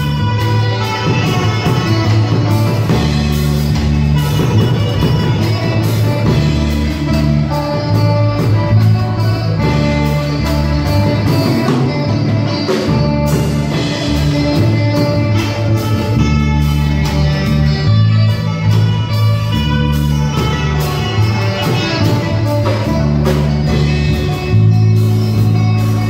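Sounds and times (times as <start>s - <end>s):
drum kit beat: 0.0s - 26.0s
electric bass guitar: 0.0s - 26.0s
electric guitar: 0.0s - 26.0s.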